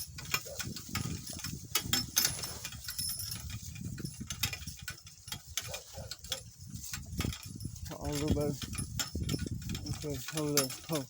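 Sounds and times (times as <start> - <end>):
cart clicking and rattling: 0.0 - 11.0.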